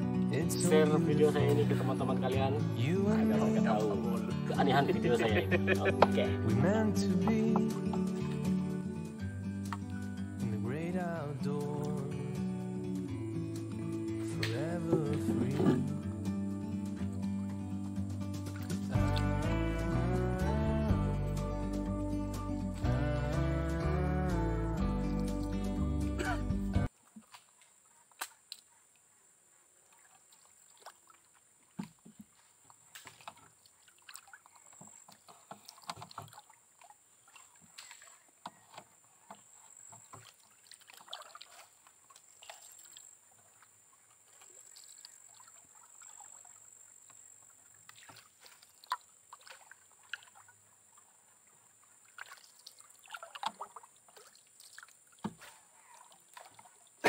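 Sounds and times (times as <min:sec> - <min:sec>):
water splashing around boat: 0:00.0 - 0:16.2, 0:16.8 - 0:20.5, 0:25.1 - 0:28.7, 0:29.8 - 0:57.0.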